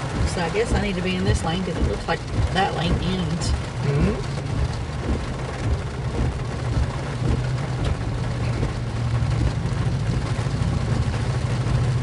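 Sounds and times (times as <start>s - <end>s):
engine and tyre hum: 0.0s - 12.0s
rain and tyre spray hiss: 0.0s - 12.0s.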